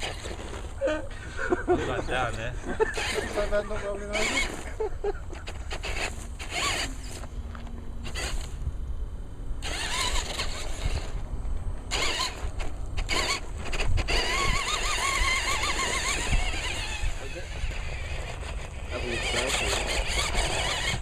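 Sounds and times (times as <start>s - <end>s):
short crunching bursts: 0.0s - 8.6s, 9.6s - 21.0s
electric motor whining: 0.0s - 8.7s, 9.6s - 21.0s.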